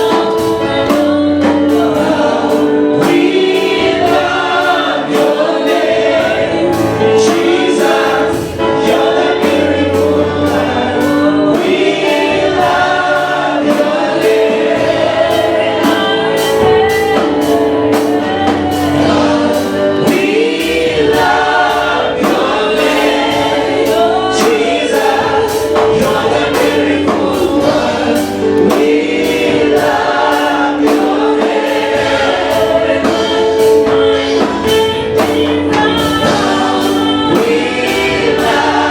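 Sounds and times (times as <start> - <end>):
congregation singing: 0.0 - 38.9
instrumental accompaniment: 0.0 - 38.9.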